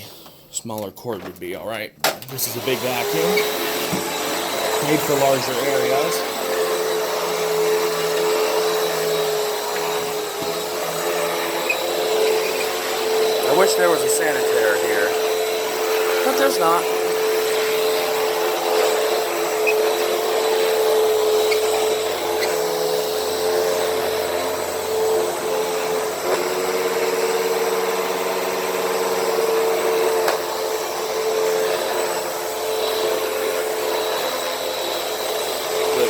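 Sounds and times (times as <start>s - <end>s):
upright vacuum on carpet: 0.0s - 0.5s, 2.0s - 36.0s.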